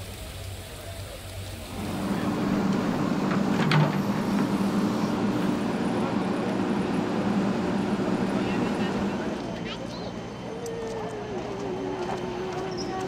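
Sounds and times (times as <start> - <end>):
excavator diesel engine running: 1.6 - 13.0.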